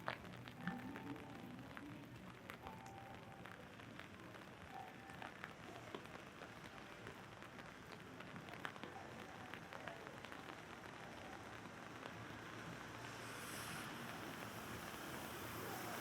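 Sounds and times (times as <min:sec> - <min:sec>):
rain hiss: 0:00.0 - 0:16.0
raindrops ticking on umbrella: 0:00.0 - 0:16.0.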